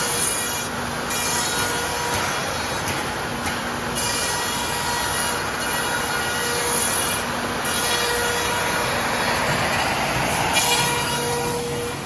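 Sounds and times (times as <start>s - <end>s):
router loud rushing noise: 0.0s - 12.0s.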